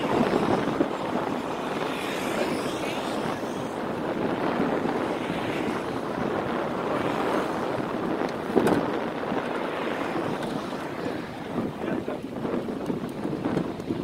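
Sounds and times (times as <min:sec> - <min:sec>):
traffic: 0:00.0 - 0:14.0
wind buffeting microphone: 0:00.0 - 0:14.0.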